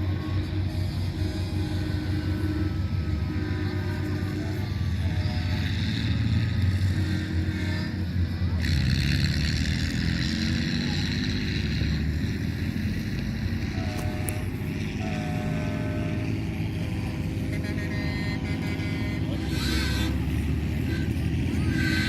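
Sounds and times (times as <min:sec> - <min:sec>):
truck engines droning: 0:00.0 - 0:22.0.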